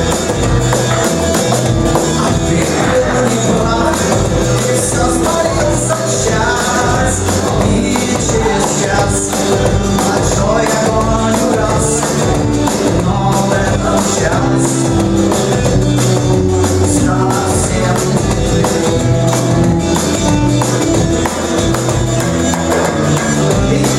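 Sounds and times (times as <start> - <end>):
electric bass guitar notes: 0.0 - 23.9
rock band playing live: 0.0 - 23.9.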